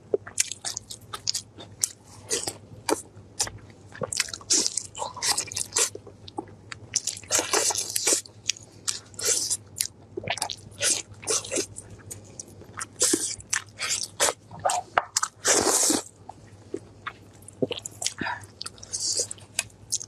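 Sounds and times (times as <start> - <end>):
faint low hum: 0.0 - 20.0
person chewing meat with smacking: 0.1 - 20.0.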